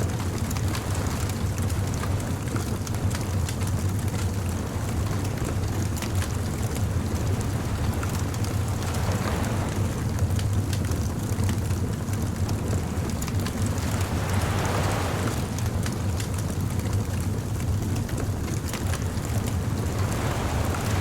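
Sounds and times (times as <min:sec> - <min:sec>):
low rumble of surf: 0:00.0 - 0:21.0
bonfire crackling and popping: 0:00.1 - 0:21.0.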